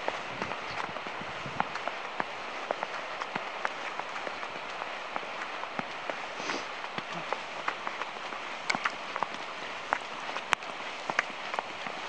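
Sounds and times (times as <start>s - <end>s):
river water rushing over stones: 0.0s - 12.0s.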